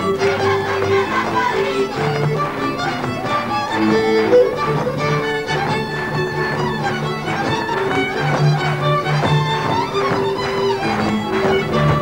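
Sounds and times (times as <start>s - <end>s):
fiddle playing folk dance melody: 0.0s - 12.0s.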